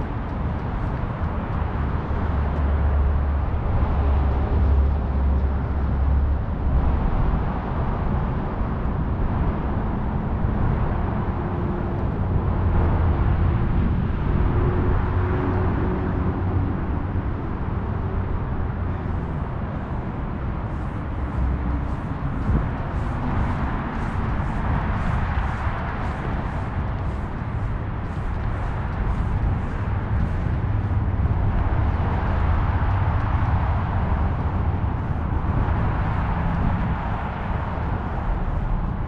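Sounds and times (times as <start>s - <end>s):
distant road traffic: 0.0s - 39.0s
low rumble: 0.0s - 39.0s.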